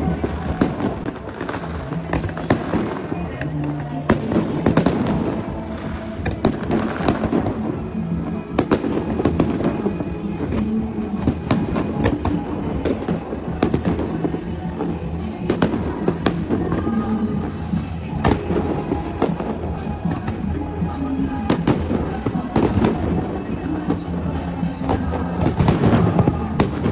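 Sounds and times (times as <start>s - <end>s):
fireworks bursting and crackling: 0.0s - 26.9s.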